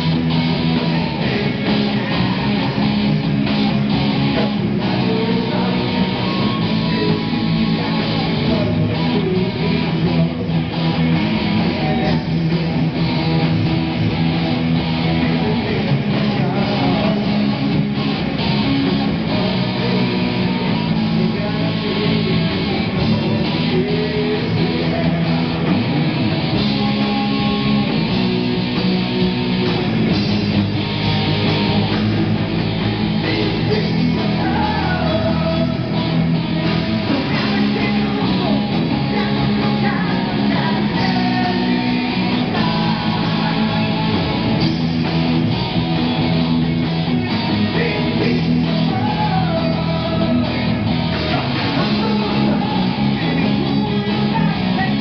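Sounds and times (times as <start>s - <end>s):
live heavy rock band: 0.0s - 55.0s.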